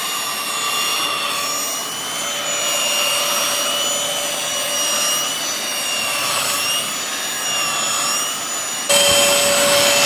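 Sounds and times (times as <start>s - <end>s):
carpet washer suction whine: 0.0s - 10.0s.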